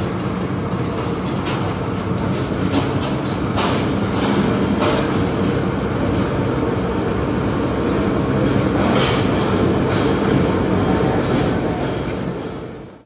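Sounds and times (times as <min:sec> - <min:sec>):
diesel locomotive engine drone: 0:00.0 - 0:13.0
rolling wagons rumble: 0:00.0 - 0:13.0.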